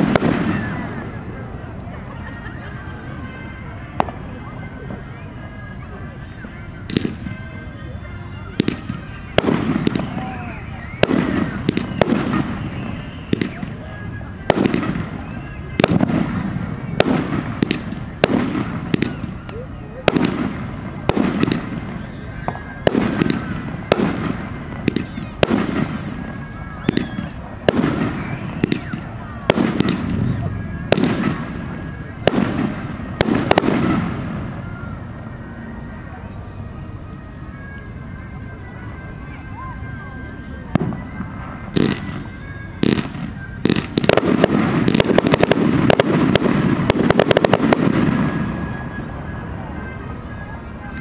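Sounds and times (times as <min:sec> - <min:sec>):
fireworks bursting with bangs: 0:00.0 - 0:51.0.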